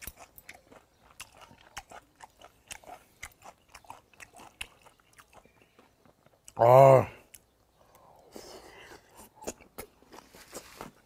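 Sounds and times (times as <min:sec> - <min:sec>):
person chewing crunchy food: 0:00.0 - 0:06.6, 0:07.2 - 0:11.0.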